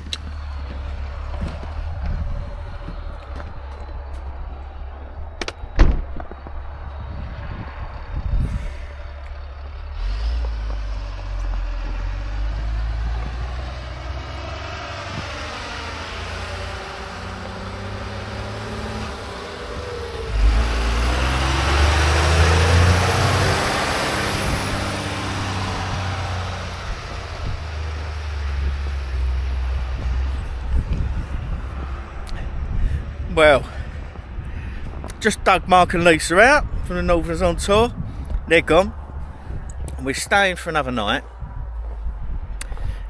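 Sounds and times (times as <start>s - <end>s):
vehicle engine running: 0.0s - 35.1s.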